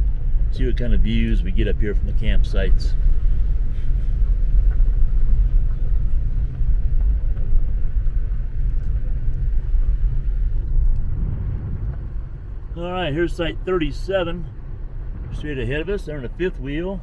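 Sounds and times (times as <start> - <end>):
car engine: 0.0 - 17.0.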